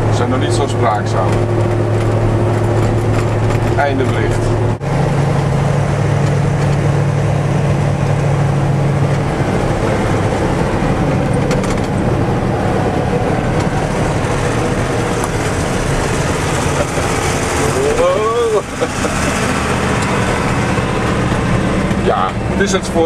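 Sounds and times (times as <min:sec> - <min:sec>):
truck engine running: 0:00.0 - 0:23.0
tyre and road noise: 0:00.0 - 0:23.0.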